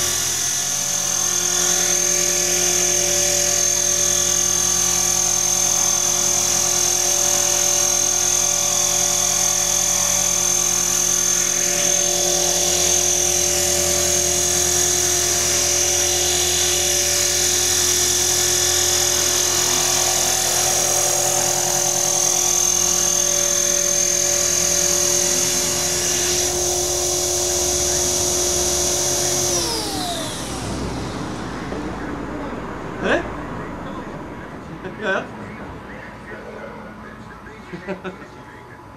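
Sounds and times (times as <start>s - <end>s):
rc helicopter motor and rotor: 0.0s - 32.0s.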